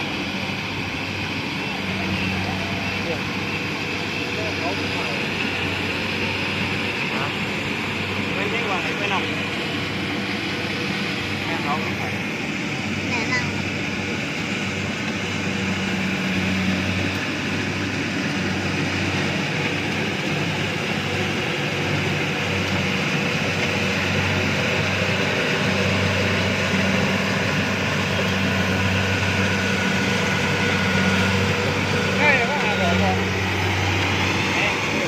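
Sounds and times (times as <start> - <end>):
engine low hum: 0.0 - 35.0
harvester machinery whir: 0.0 - 35.0.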